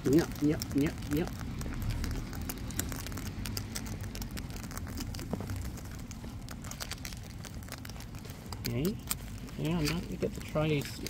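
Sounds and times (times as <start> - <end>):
low rumble: 0.0 - 9.4
cockatoos cracking food: 0.0 - 11.0.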